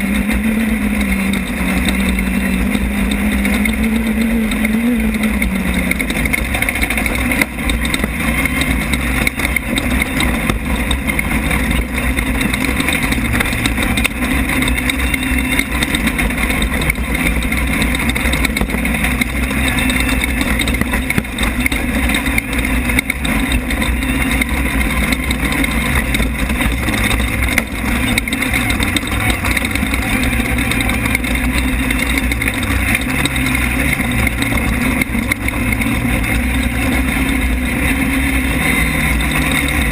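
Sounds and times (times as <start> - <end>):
race car engine revving: 0.0 - 39.9
rattling and knocking: 0.0 - 39.9.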